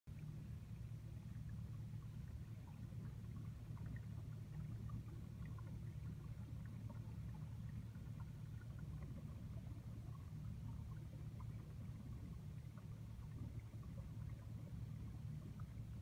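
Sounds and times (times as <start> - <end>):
faint ticks: 0.1 - 16.0.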